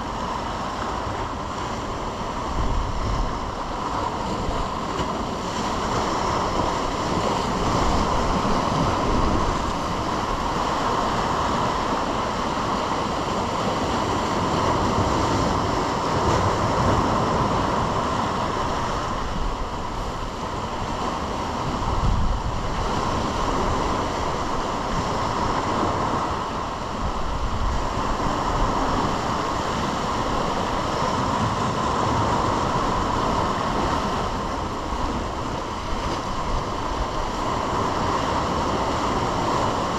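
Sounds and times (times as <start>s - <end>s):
ocean surf washing: 0.0s - 39.9s
wind buffeting microphone: 0.0s - 39.9s.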